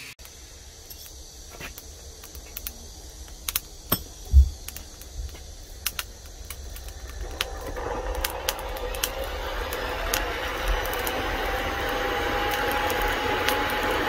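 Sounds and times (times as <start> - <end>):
steady rushing noise: 0.1 - 14.0
burning charcoal clicking and popping: 0.2 - 14.0.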